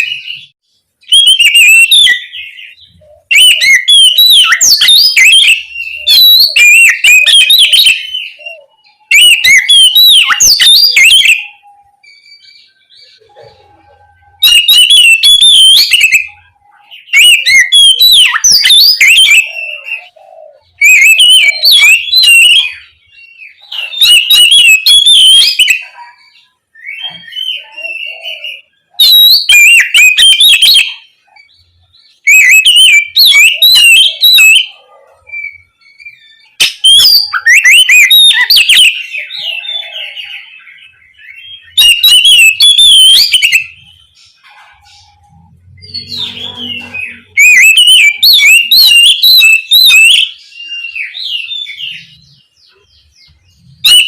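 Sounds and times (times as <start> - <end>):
bird singing whistles and warbles: 0.0 - 54.0.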